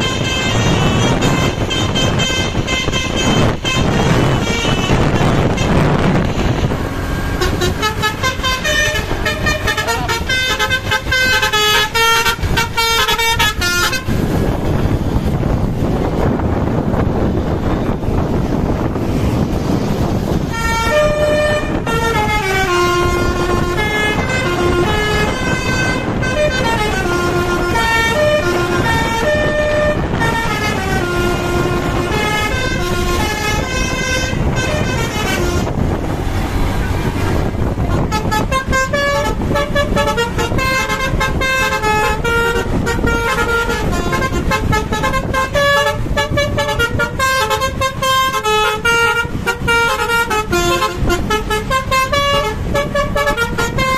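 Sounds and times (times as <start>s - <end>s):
bus horn playing tunes: 0.0s - 16.4s, 17.2s - 53.9s.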